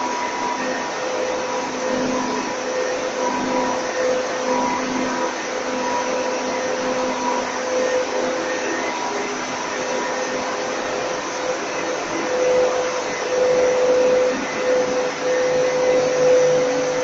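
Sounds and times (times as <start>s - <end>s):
machinery whirring: 0.0s - 17.0s.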